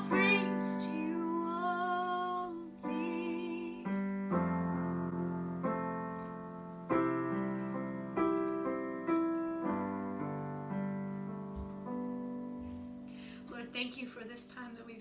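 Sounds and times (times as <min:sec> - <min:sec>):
piano playing slow chords: 0:00.0 - 0:13.7.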